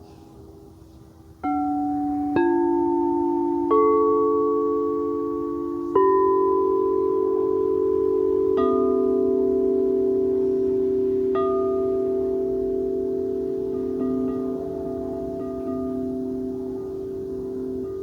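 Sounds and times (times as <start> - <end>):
singing bowls ringing: 0.0 - 18.0.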